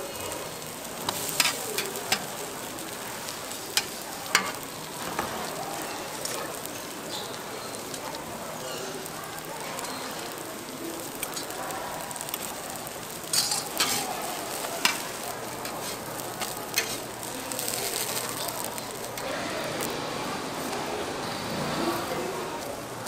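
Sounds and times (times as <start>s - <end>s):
pancakes sizzling in oil: 0.0s - 23.0s.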